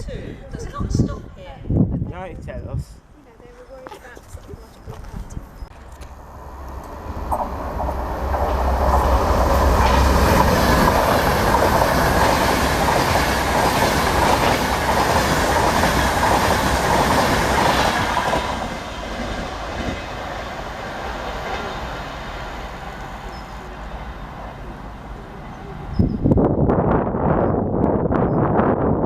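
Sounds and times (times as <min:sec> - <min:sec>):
train passing at speed: 0:05.7 - 0:29.0.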